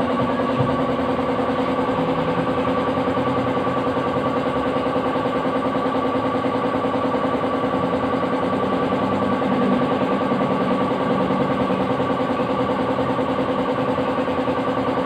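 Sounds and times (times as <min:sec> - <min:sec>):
motor humming: 0:00.2 - 0:15.0.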